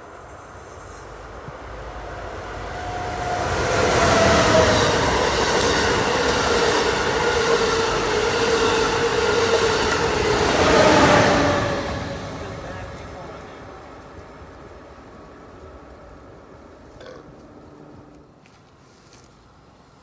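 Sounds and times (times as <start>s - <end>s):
high-speed train passing: 0.0s - 18.4s.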